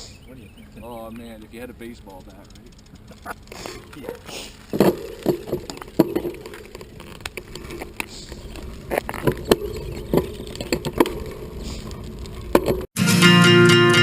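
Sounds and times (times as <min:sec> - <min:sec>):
wind and road rumble: 0:00.0 - 0:12.9
bicycle clicks and rattles: 0:00.7 - 0:12.9.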